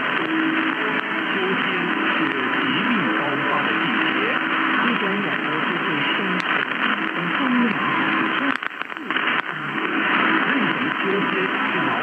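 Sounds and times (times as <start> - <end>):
faint radio speech: 0.0 - 12.0
radio crackles: 0.0 - 12.0
radio static hiss: 0.0 - 12.0.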